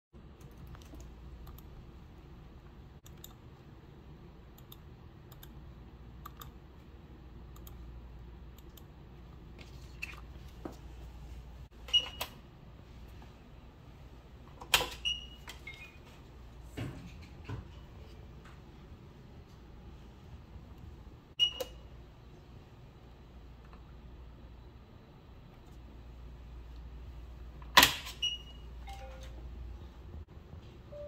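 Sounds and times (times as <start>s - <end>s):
low room hum: 0.2s - 31.0s.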